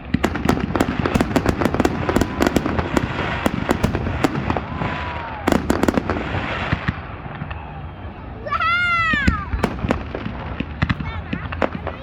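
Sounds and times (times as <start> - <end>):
firework whistle: 0.0 - 9.9
fireworks crackling and banging: 0.0 - 12.0.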